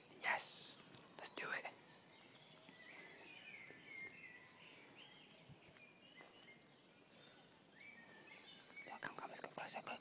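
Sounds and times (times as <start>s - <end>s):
distant bird chirps: 0.0s - 10.0s.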